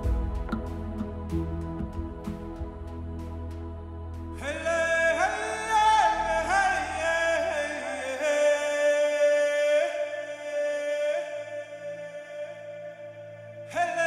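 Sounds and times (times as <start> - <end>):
low drone: 0.0 - 14.0.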